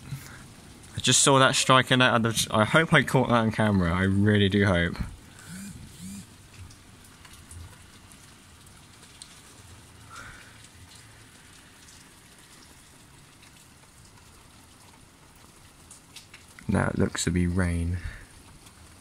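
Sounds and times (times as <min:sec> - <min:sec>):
rain falling: 0:00.0 - 0:19.0
ticks of raindrops: 0:00.0 - 0:19.0.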